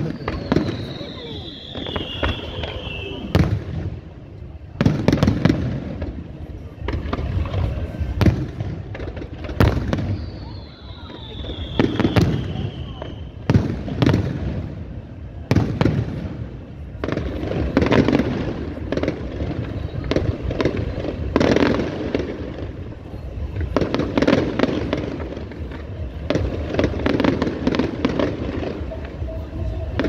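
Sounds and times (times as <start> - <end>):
fireworks bursting with bangs: 0.0 - 30.0
fireworks crackling: 0.0 - 30.0.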